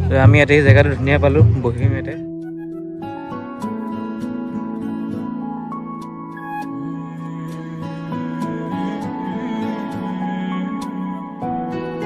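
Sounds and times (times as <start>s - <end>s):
calm instrumental music: 0.0s - 12.0s.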